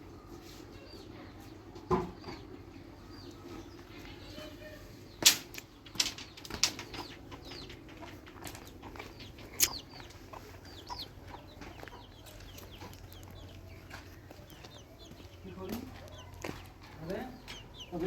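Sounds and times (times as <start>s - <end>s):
chickens chirping: 0.1s - 18.0s.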